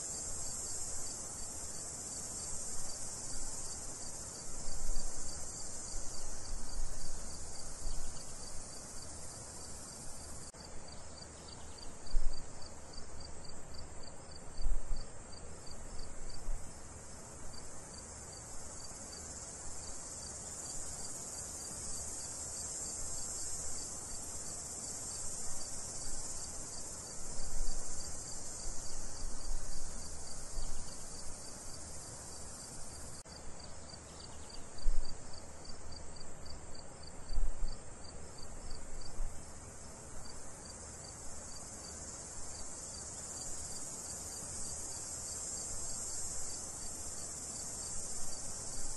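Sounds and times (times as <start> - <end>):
crickets chirping: 0.0 - 48.9
high insect hiss: 0.0 - 48.9.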